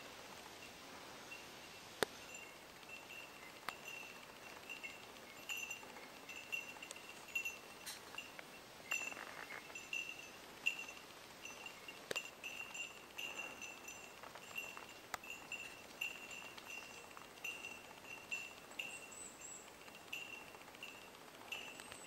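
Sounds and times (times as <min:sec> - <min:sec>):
small bell jingling: 0:02.1 - 0:22.0.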